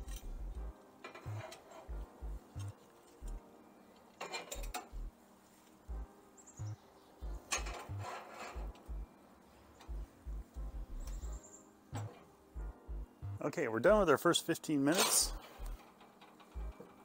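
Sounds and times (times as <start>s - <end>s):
quiet music with low beat: 0.0s - 17.0s.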